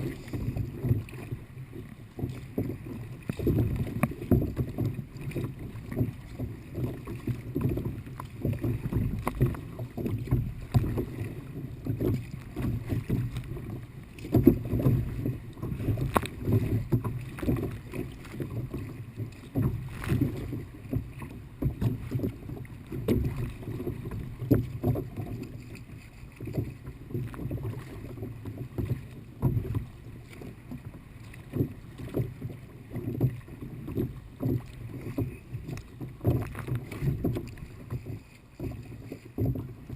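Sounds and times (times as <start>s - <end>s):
water sloshing against kayak: 0.0s - 39.9s.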